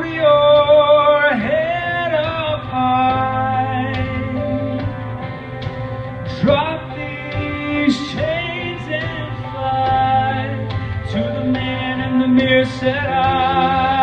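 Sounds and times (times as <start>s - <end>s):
man singing ballad through pa: 0.0s - 5.4s, 6.2s - 14.0s
instrumental accompaniment: 0.0s - 14.0s.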